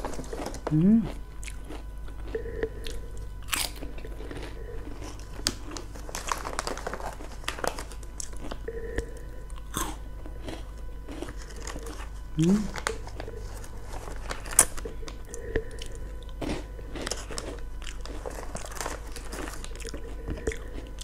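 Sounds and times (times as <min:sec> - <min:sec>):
crunching snack chips: 0:00.0 - 0:21.0.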